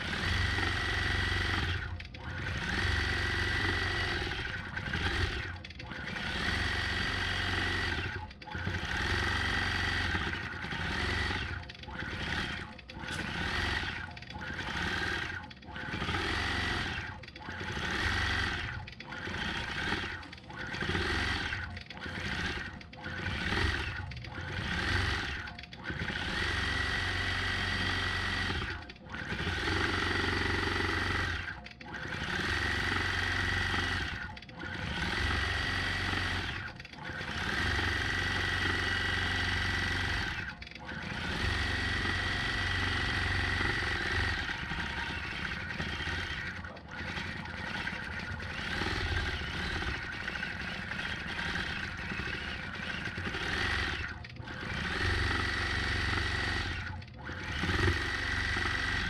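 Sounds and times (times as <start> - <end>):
quilting machine needle whining: 0.0 - 59.0.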